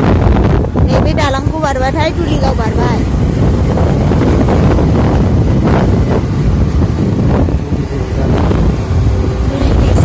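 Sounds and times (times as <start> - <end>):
wind buffeting microphone: 0.0 - 10.0
scooter running: 1.4 - 10.0.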